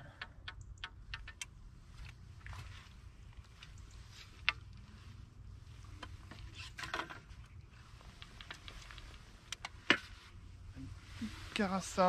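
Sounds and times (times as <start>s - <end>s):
low steady rumble: 0.0s - 12.0s
faint handling noises: 0.1s - 12.0s.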